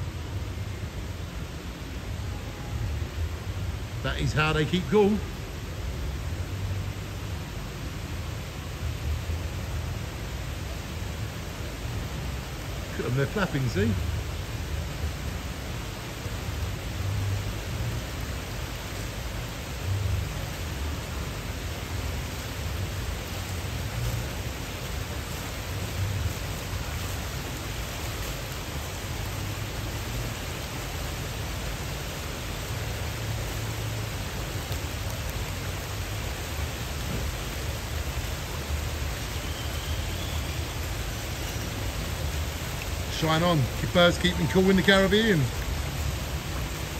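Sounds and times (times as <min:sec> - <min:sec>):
fountain water falling: 0:00.0 - 0:46.9.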